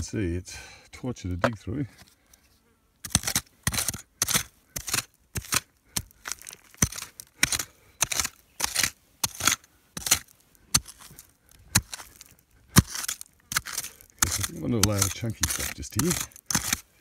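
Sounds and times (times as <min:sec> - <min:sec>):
digging tool striking clay soil: 0:03.0 - 0:17.0.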